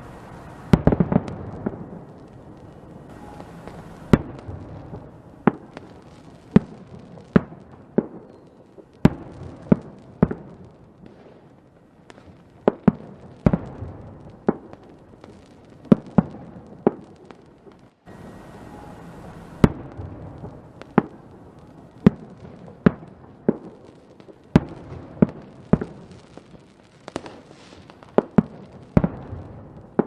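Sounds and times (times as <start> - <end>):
low steady background: 0.0 - 27.0
fireworks exploding: 0.0 - 30.0.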